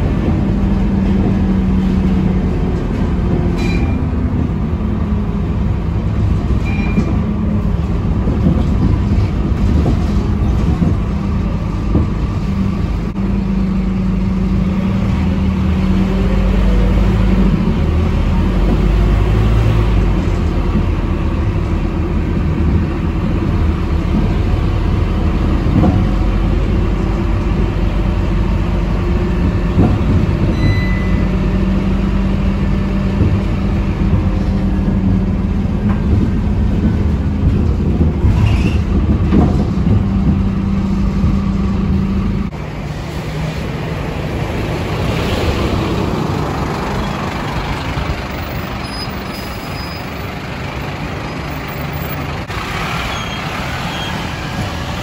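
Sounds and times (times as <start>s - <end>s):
bus diesel engine: 0.0s - 55.0s
road rumble: 0.0s - 55.0s.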